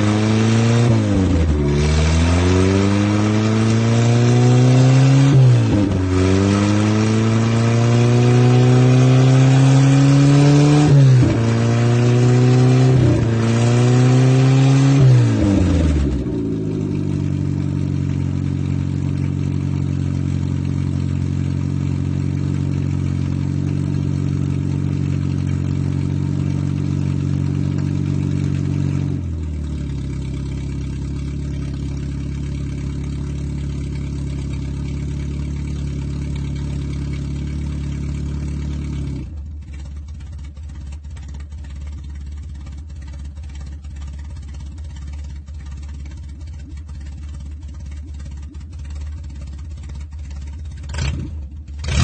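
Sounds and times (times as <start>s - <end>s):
car engine with broken exhaust: 0.0s - 52.0s.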